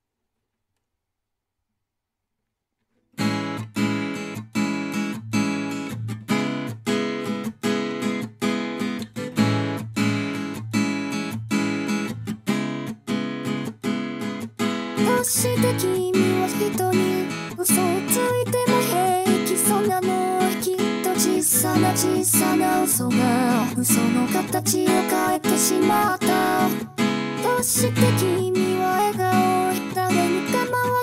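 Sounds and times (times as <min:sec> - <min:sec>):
guitar strumming chords: 0:03.2 - 0:31.0.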